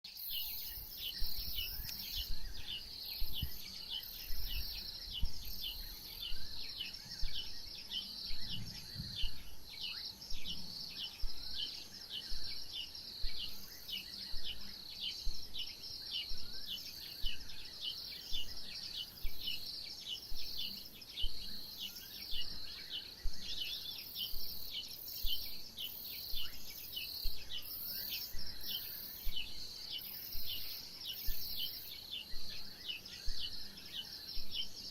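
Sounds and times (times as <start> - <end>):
soft low thumps: 0.2 - 33.8, 34.4 - 34.9.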